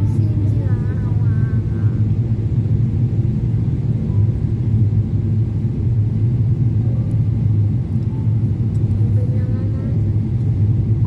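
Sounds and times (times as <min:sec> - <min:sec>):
airflow over fuselage: 0:00.0 - 0:11.0
jet engines rumbling: 0:00.0 - 0:11.0.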